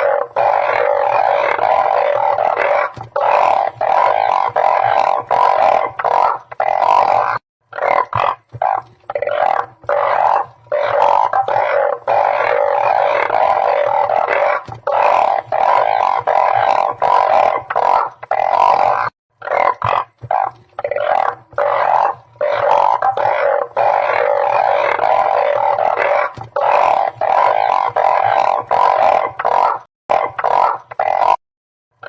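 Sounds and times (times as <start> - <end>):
frogs calling in chorus: 0.0 - 31.4.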